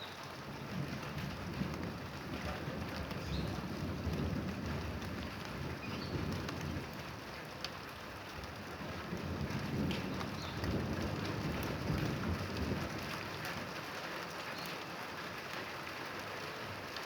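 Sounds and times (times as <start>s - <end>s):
steady rain falling: 0.0s - 17.0s
low rumble of thunder: 0.4s - 14.3s.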